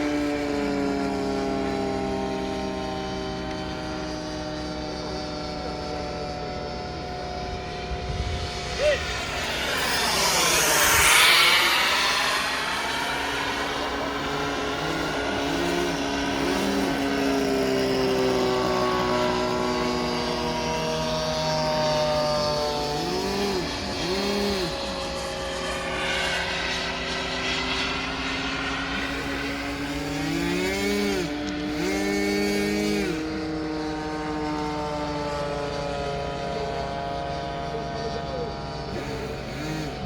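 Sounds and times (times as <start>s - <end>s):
model jet turbine whine: 0.0s - 40.0s.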